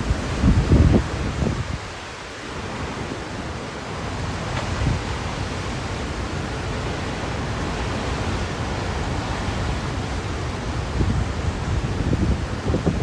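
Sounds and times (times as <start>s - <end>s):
wind buffeting microphone: 0.0s - 3.4s, 4.0s - 13.0s
wind and rain rushing: 0.0s - 13.0s.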